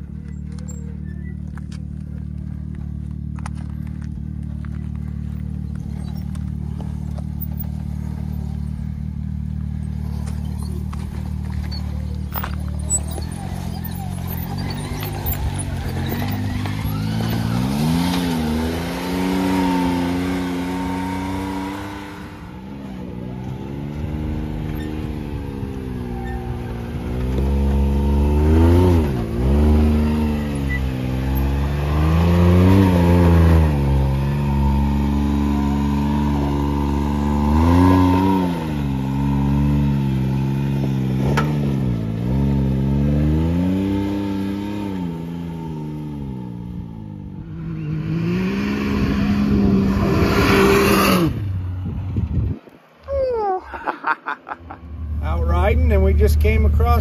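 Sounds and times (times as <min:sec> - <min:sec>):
engine revving under load: 0:04.7 - 0:52.8.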